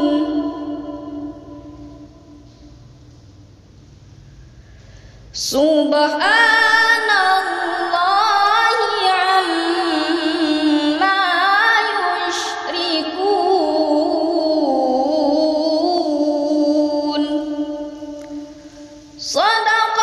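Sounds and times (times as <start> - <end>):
woman reciting melodically: 0.0 - 2.9, 5.3 - 20.0.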